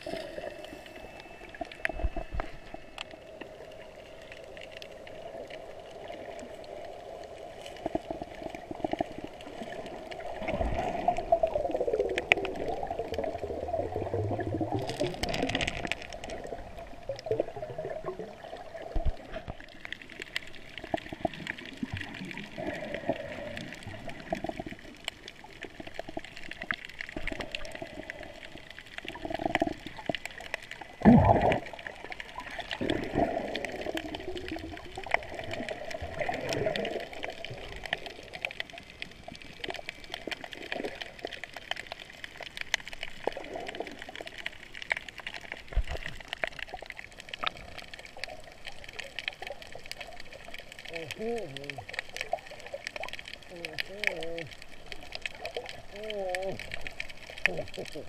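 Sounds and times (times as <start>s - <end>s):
muffled underwater water gurgling: 0.0s - 58.0s.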